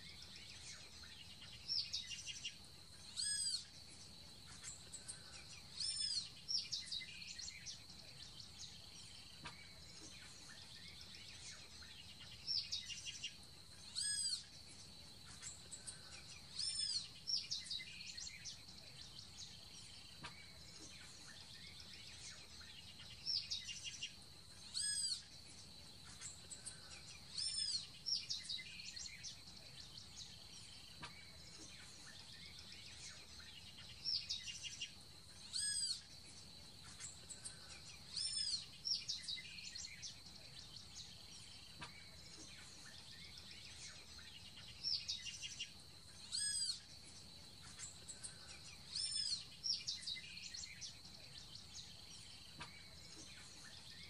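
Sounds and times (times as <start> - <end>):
bird singing whistled notes: 0.0 - 3.8, 5.5 - 14.5, 16.3 - 25.3, 26.2 - 36.1, 38.0 - 46.9, 47.8 - 54.0.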